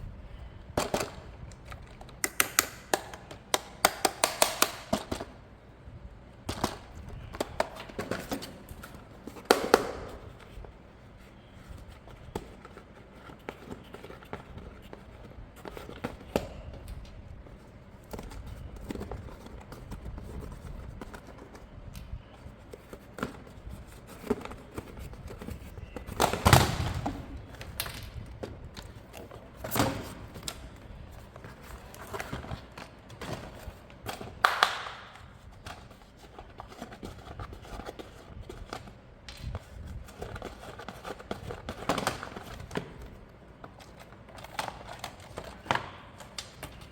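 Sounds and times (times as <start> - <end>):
hands handling plastic packaging: 6.3 - 46.9.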